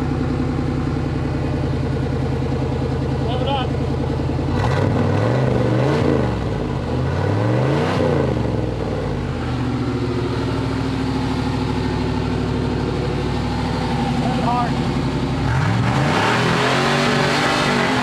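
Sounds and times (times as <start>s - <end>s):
engine revving and idling: 0.0s - 18.0s.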